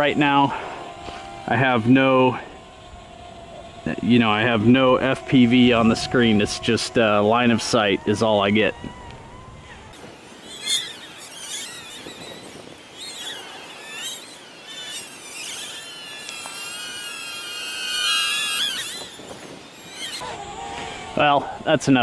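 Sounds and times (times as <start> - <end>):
quadcopter motors whining: 0.0 - 21.3.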